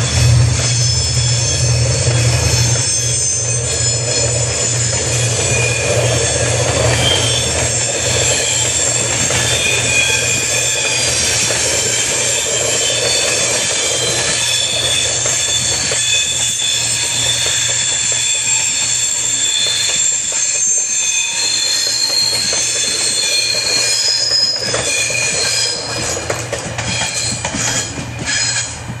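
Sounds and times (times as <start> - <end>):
train wheels rumbling on rails: 0.0 - 29.0
train wheels squealing: 0.0 - 29.0.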